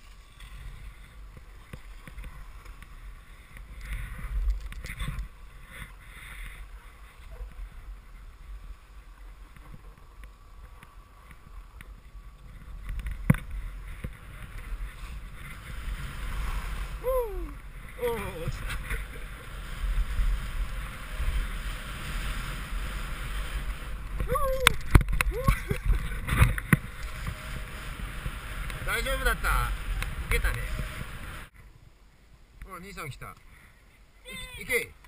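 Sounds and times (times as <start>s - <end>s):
skis scraping over snow: 0.0s - 31.5s
wind buffeting microphone: 0.0s - 31.5s.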